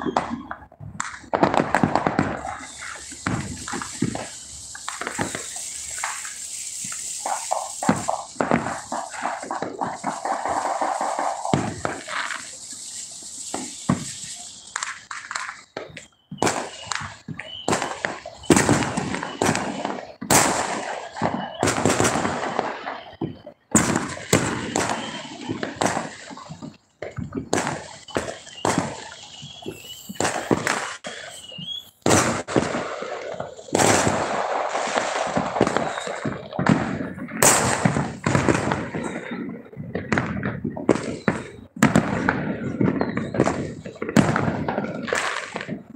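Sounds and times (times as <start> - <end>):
fireworks banging and crackling: 0.0 - 45.9.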